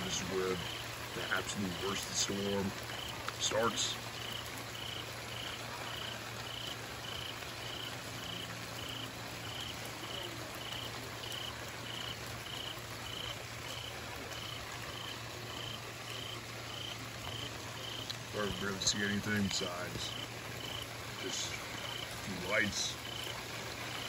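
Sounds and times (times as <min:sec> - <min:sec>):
heavy rain and wind: 0:00.0 - 0:24.0.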